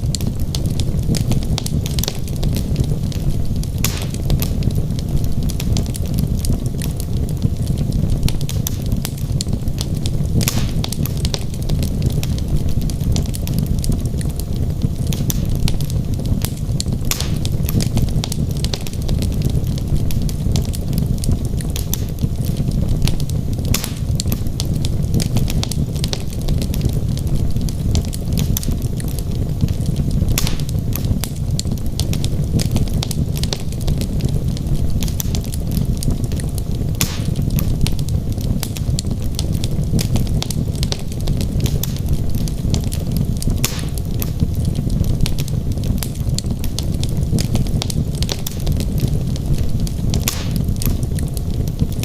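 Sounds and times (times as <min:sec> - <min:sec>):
burning logs popping: 0:00.0 - 0:52.0
fire crackling: 0:00.0 - 0:52.0
low rumble of flames: 0:00.0 - 0:52.0.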